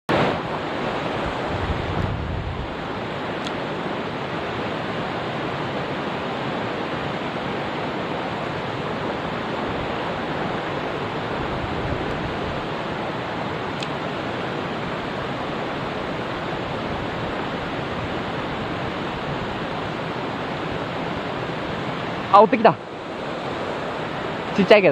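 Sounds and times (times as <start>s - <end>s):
mountain stream rushing: 0.1s - 24.9s.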